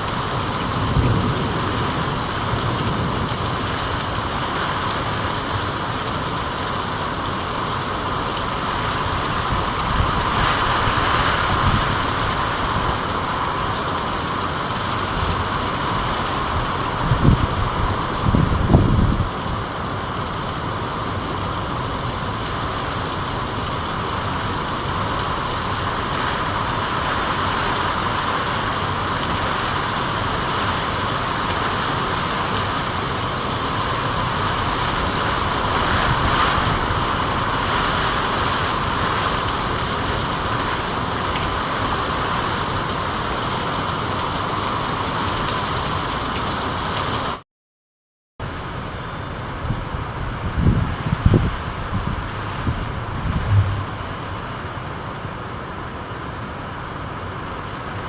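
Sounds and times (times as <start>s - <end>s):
rain falling: 0.0s - 47.4s, 48.4s - 58.0s.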